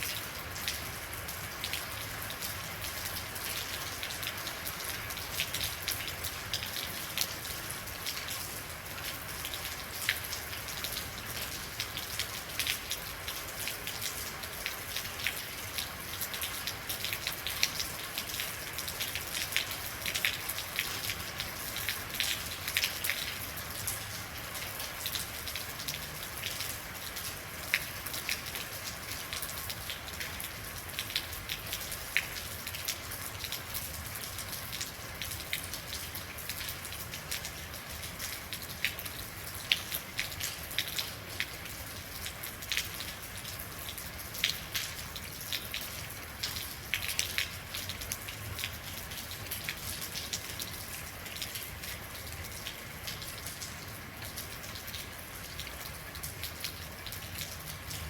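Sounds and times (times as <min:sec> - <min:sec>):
raindrops ticking close by: 0:00.0 - 0:58.0.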